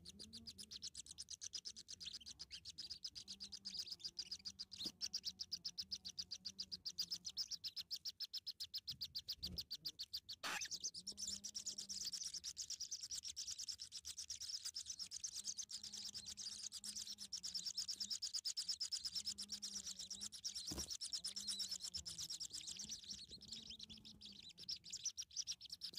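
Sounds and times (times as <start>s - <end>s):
nestlings cheeping: 0.0s - 25.9s.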